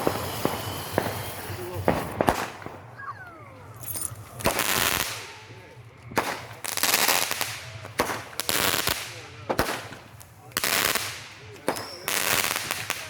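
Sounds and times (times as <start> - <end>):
fireworks bangs and crackling: 0.0 - 13.0
sharp firework cracks: 0.0 - 13.0.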